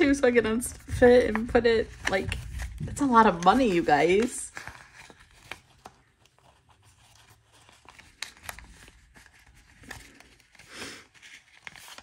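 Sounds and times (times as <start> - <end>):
paper money rustling: 0.8 - 12.0.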